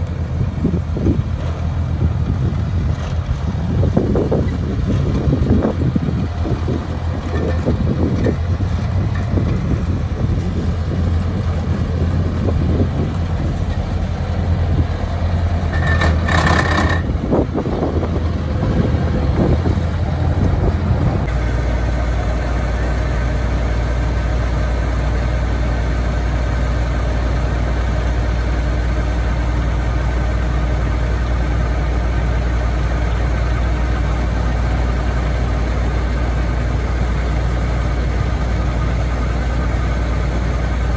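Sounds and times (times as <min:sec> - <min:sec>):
combine harvester diesel engine: 0:00.0 - 0:40.9.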